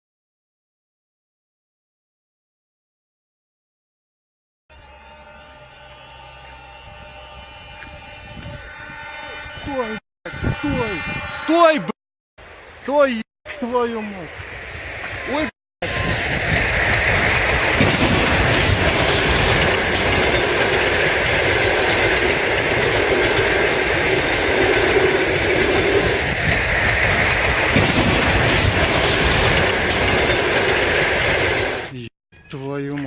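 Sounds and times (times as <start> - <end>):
train rushing past: 4.7 - 32.1.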